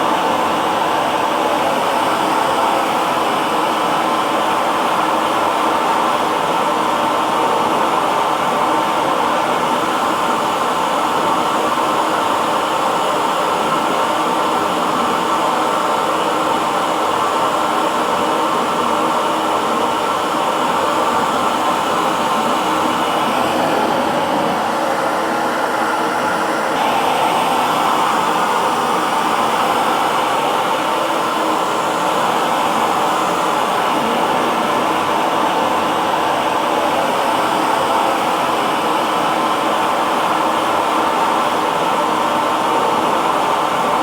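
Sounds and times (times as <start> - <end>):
hair dryer blowing: 0.0 - 44.0.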